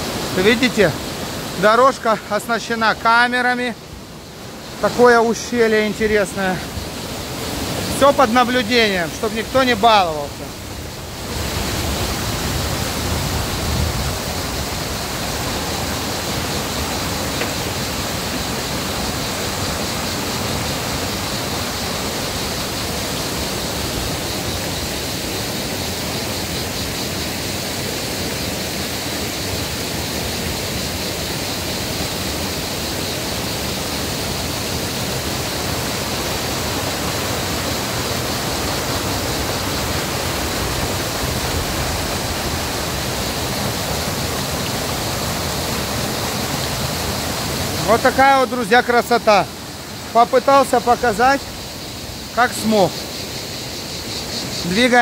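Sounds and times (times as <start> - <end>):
waterfall and stream rushing: 0.0 - 55.0.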